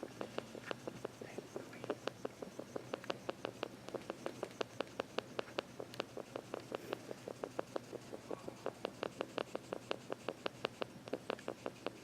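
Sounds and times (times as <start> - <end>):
animal making sharp clicks: 0.0 - 12.0.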